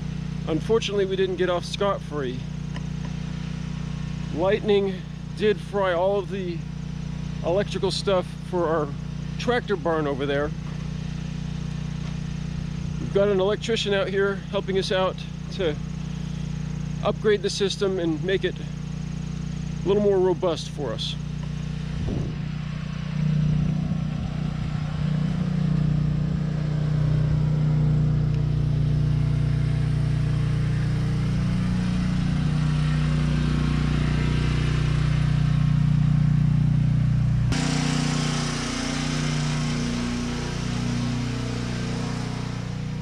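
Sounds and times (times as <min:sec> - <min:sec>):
engine idling: 0:00.0 - 0:43.0.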